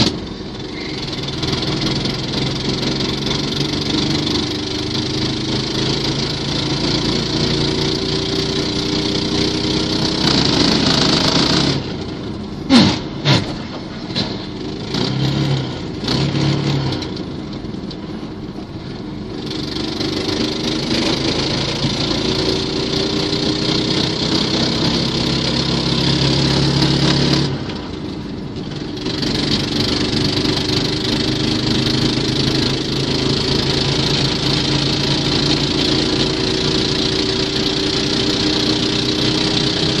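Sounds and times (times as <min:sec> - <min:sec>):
single-cylinder engine running: 0:00.0 - 0:40.0.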